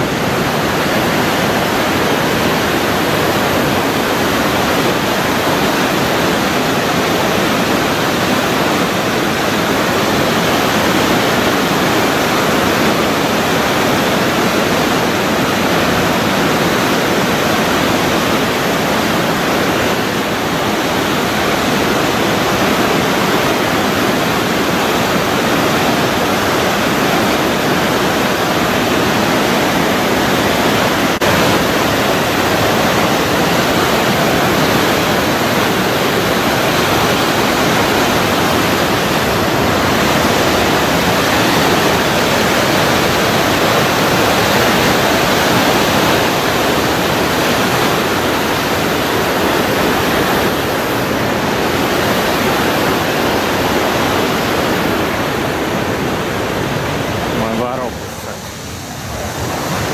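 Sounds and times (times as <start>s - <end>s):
rushing white water: 0.0s - 59.9s.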